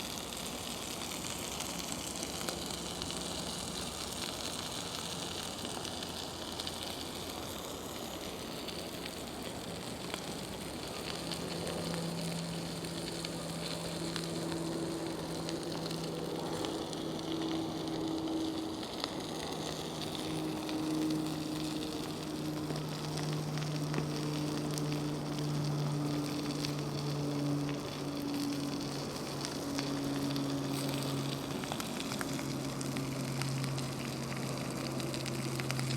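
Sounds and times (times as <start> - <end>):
food sizzling over fire: 0.0 - 35.9
low steady hum: 0.0 - 35.9.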